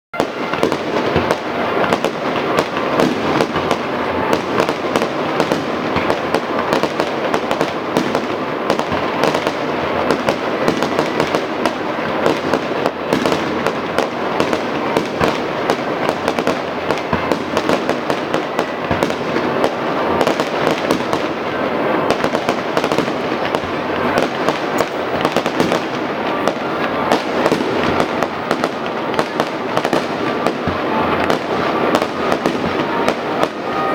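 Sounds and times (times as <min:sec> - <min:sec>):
fireworks banging and crackling: 0:00.1 - 0:33.9.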